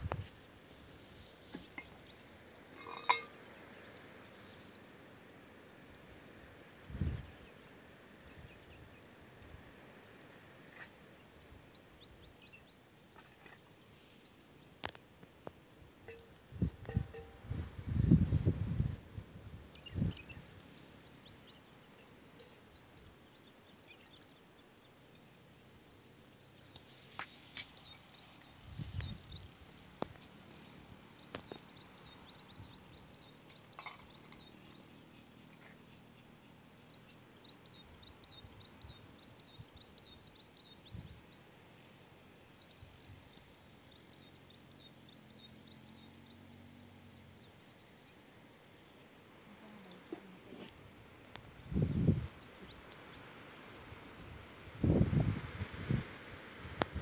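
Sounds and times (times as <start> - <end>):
faint outdoor ambience: 0.0 - 57.0.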